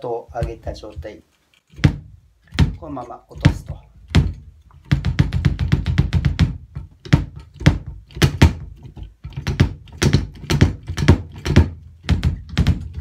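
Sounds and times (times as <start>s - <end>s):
bass drum kicks: 0.3s - 1.2s, 1.8s - 13.0s.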